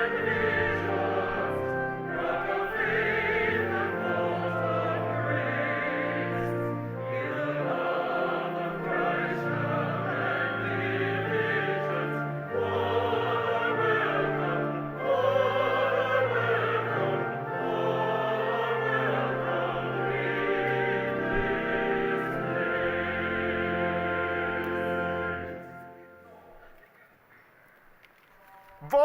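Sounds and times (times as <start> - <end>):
choir and congregation singing hymn: 0.0 - 26.8.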